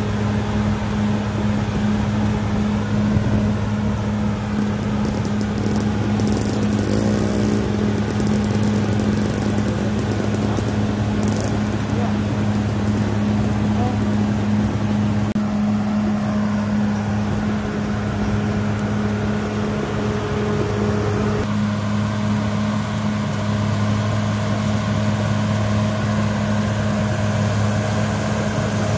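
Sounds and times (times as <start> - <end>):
bulldozer blade pushing soil: 0.0 - 28.9
bulldozer diesel engine running: 0.0 - 28.9.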